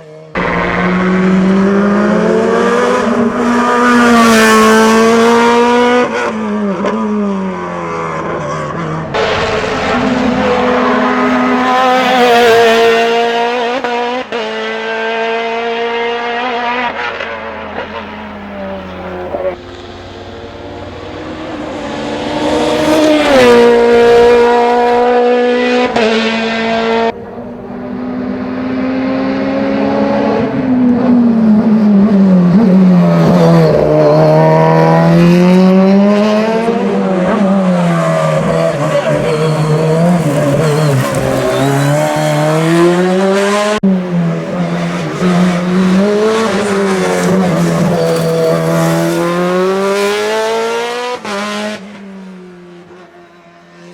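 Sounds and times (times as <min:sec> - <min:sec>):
race car engine at high revs: 0:00.0 - 0:53.9.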